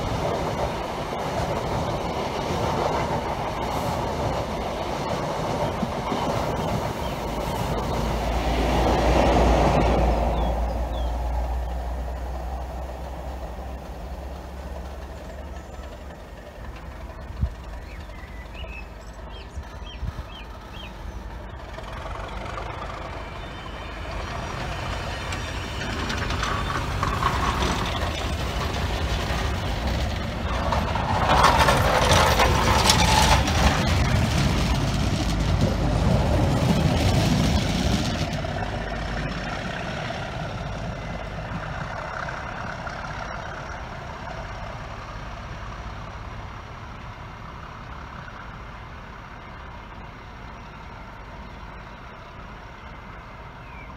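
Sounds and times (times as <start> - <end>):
train coaches rolling past: 0.0 - 53.9.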